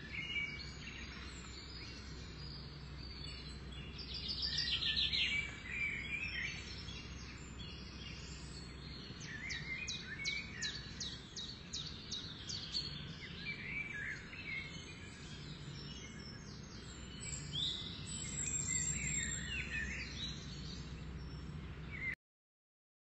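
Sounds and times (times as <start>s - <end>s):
low background hum: 0.0s - 22.2s
songbirds chirping: 0.0s - 22.2s.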